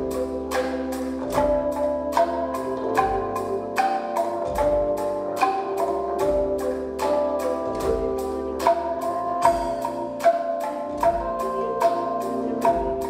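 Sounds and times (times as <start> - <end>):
bamboo tubes struck with mallet: 0.0 - 13.0
band holding notes and bass: 0.0 - 13.0.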